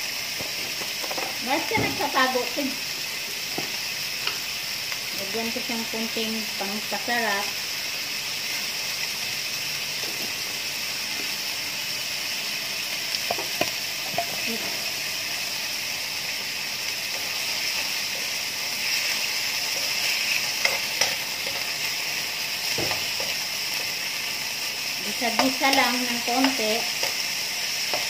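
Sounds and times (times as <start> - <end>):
chicken sizzling in frying pan: 0.0 - 28.0.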